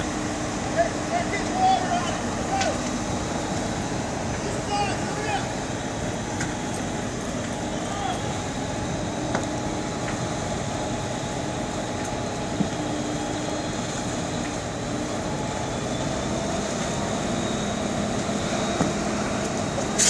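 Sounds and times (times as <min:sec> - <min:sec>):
engine-like hum: 0:00.0 - 0:20.0
fire rumbling: 0:00.0 - 0:20.0.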